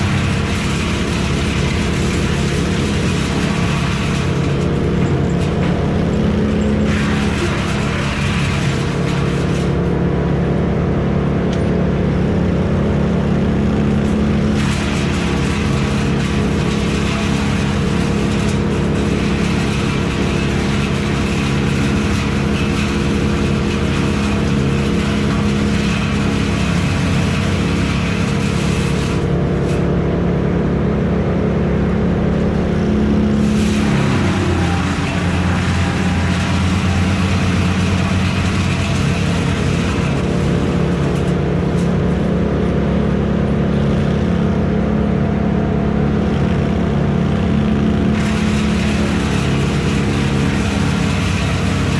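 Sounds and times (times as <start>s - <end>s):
heavy engine running: 0.0s - 51.9s.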